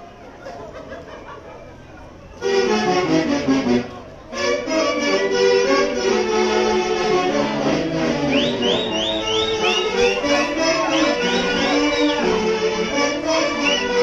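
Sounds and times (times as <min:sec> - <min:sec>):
orchestra playing: 0:02.4 - 0:14.0.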